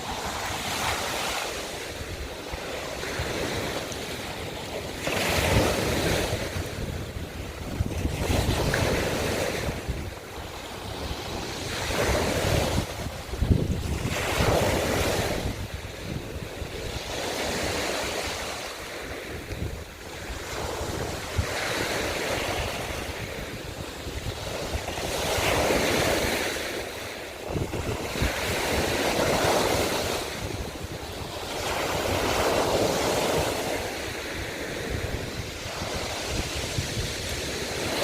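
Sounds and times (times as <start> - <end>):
waves breaking on shell shore: 0.0 - 38.0.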